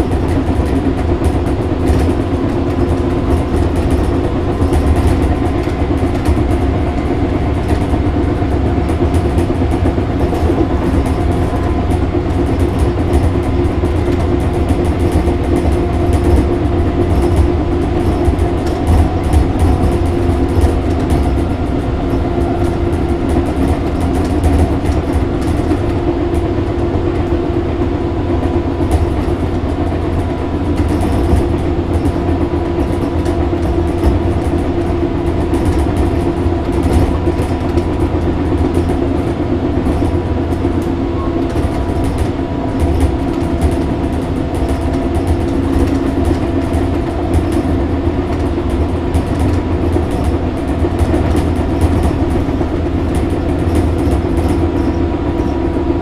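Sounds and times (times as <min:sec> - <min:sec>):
electric train motor hum: 0:00.0 - 0:56.0
rumble of the rails: 0:00.0 - 0:56.0.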